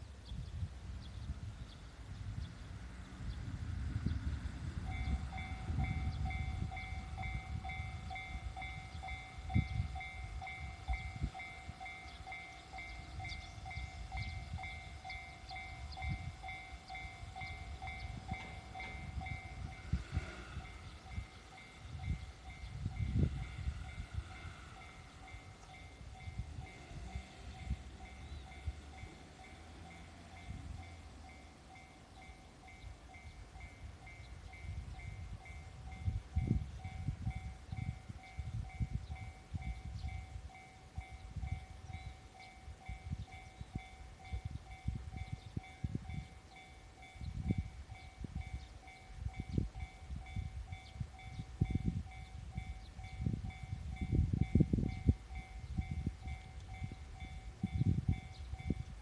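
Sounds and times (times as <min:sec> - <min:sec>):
level-crossing warning bell ringing: 0:04.6 - 0:59.0.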